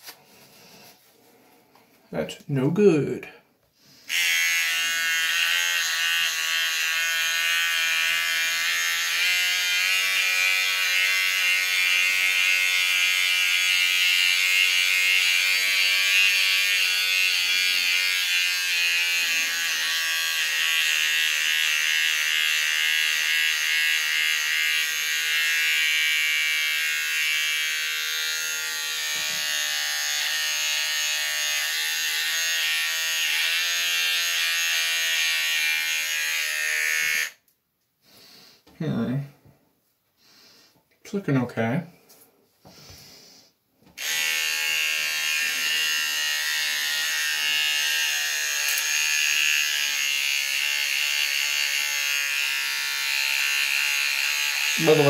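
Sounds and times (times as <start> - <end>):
electric beard trimmer running: 4.1 - 37.5, 43.9 - 55.0.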